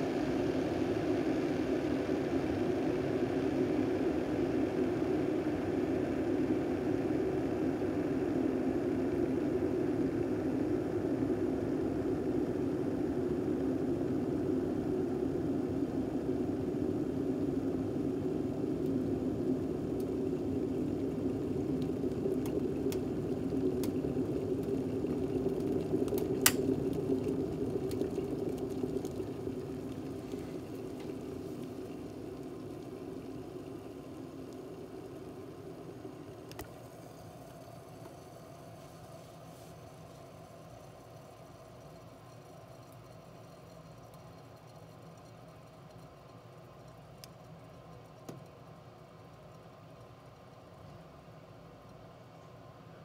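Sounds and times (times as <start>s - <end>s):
water boiling in a kettle: 0.0s - 53.0s.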